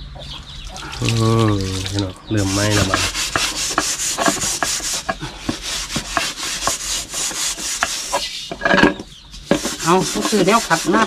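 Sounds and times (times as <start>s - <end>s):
scouring pad scrubbing metal pan: 1.1s - 11.0s.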